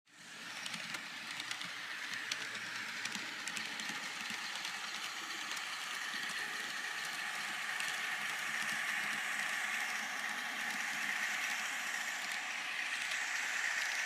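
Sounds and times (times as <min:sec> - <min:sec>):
hissy locomotive running sounds: 0:00.1 - 0:14.0.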